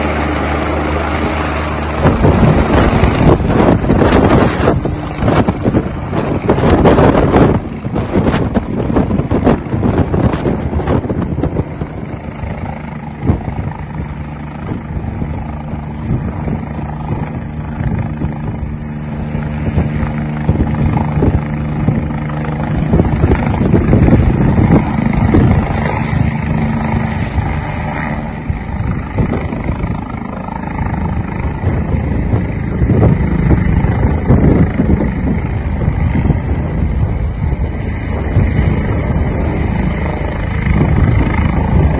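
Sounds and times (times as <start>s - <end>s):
helicopter rotor and turbines: 0.0s - 41.9s.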